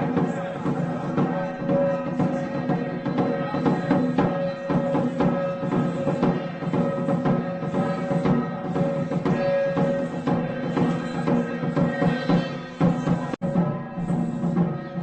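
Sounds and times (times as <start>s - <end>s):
drums beating: 0.0s - 15.0s
wood block percussion: 0.0s - 15.0s.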